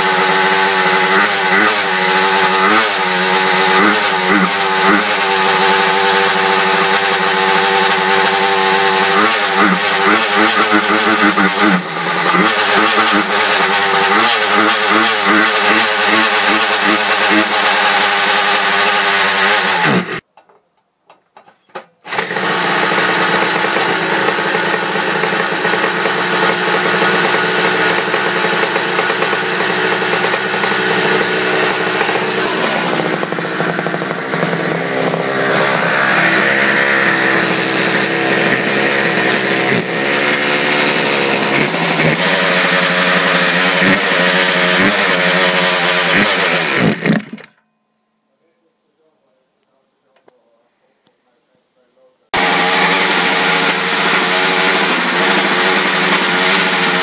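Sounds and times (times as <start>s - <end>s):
two-stroke scooter engine revving: 0.0s - 20.3s, 22.0s - 47.5s, 52.3s - 57.0s.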